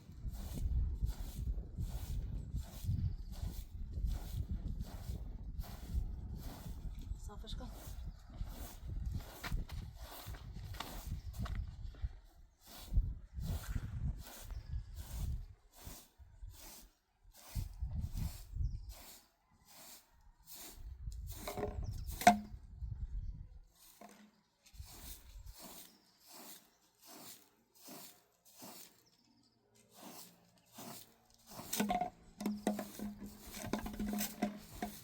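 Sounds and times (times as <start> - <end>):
broom sweeping: 0.2 - 6.8, 7.6 - 11.2, 12.6 - 22.4, 23.8 - 35.0.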